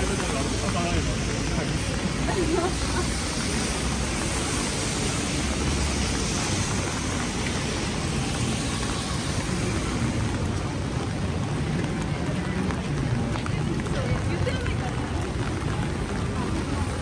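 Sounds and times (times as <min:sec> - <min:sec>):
steady rain on street: 0:00.0 - 0:17.0.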